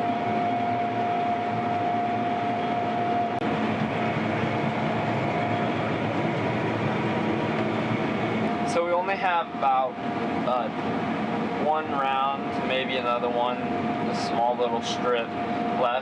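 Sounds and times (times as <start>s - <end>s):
combine harvester drone: 0.0s - 16.0s
steady high hum: 0.0s - 16.0s.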